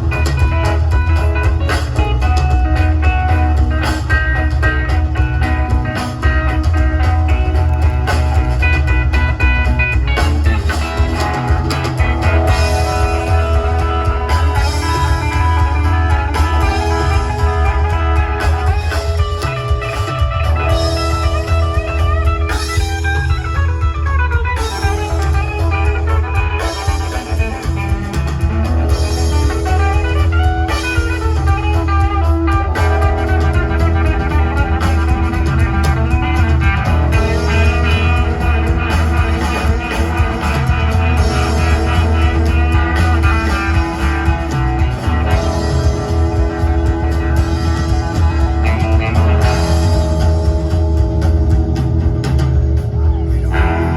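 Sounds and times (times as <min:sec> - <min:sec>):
live rock band through speakers: 0:00.0 - 0:53.9.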